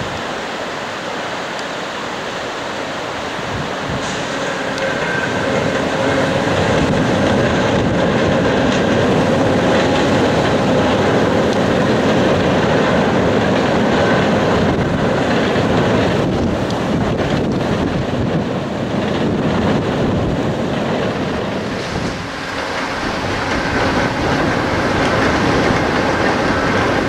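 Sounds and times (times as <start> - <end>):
train crossing steel bridge: 0.0 - 27.0.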